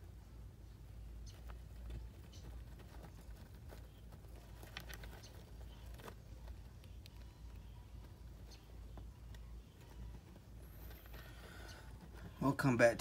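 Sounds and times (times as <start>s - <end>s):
low steady hum: 0.0s - 13.0s
mouse scratching on bedding: 1.0s - 13.0s.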